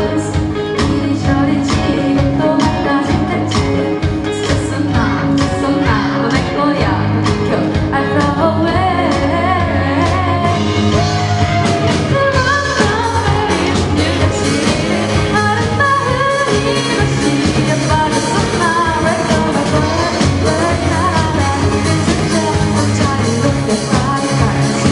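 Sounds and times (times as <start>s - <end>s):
bass guitar: 0.0s - 24.9s
drums: 0.0s - 24.9s
person singing: 0.0s - 24.9s.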